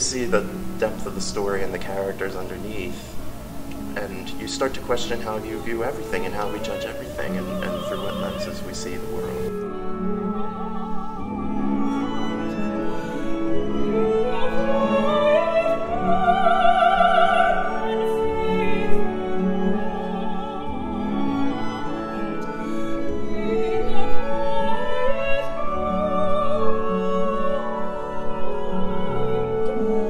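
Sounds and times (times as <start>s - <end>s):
chamber orchestra strings: 0.0s - 30.0s
woman singing operatically: 4.3s - 30.0s.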